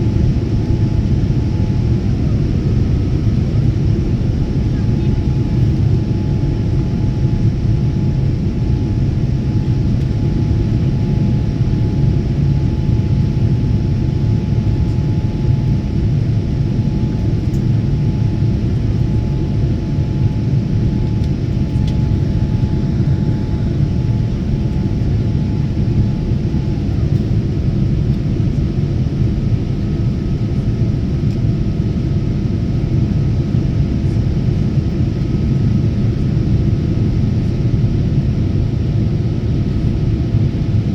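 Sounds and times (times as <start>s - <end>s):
jet engine rumble: 0.0s - 40.9s.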